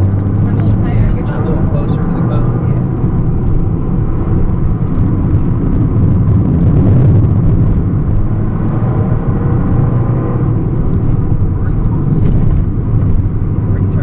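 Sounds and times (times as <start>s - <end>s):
car engine running hard: 0.0s - 14.0s
road noise: 0.0s - 14.0s.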